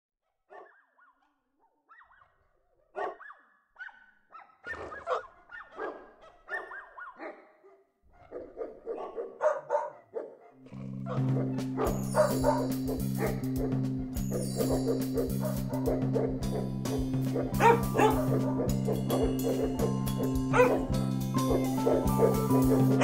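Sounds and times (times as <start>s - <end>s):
dogs barking: 0.5s - 23.0s.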